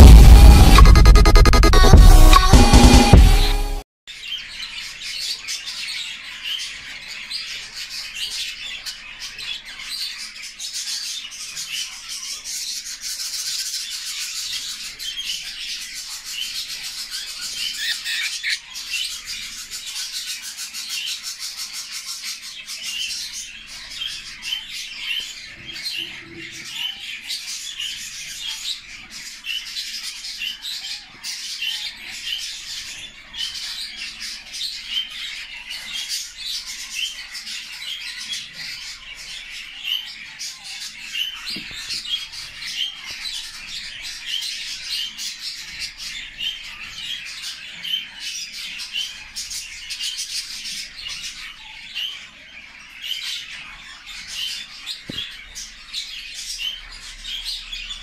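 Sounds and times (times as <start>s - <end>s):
budgerigars chattering: 5.3s - 58.0s.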